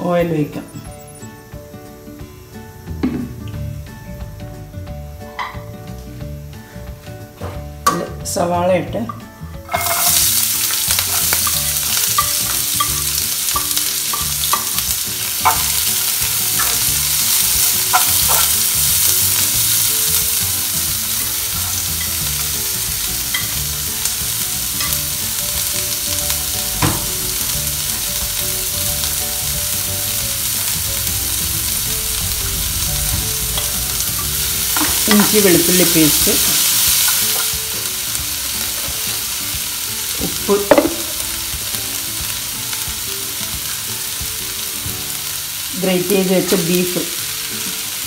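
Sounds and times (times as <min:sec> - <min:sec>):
onions sizzling in oil: 0:00.0 - 0:48.0.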